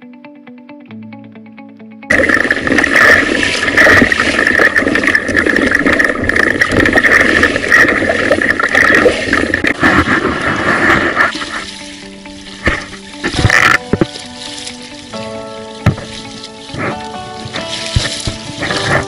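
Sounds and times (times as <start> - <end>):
sea water splashing against hull: 2.1 - 15.1, 15.9 - 19.0.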